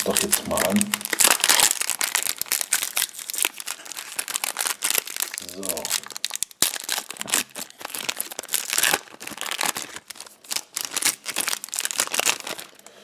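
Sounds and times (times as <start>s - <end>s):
foil pack tearing: 0.0s - 12.8s
wrapper crinkling: 0.0s - 12.9s.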